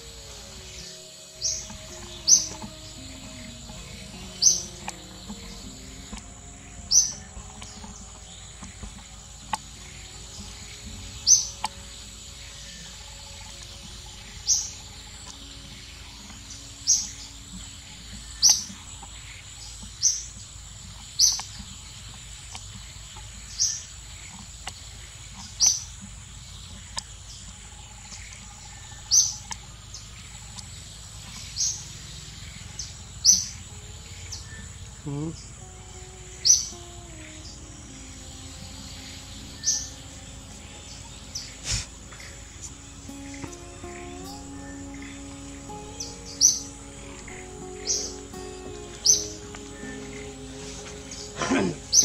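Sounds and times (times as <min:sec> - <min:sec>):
bird calling: 0:00.0 - 0:52.0
insect drone: 0:00.0 - 0:52.0.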